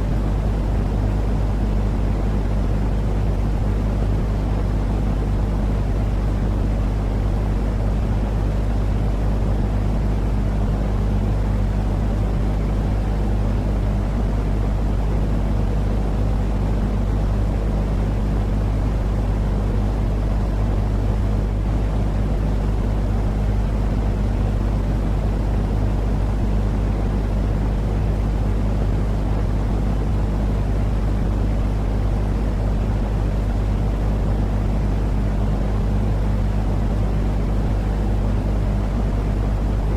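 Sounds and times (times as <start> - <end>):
constant low hum: 0.0 - 39.9
low rumbling white noise: 0.0 - 39.9.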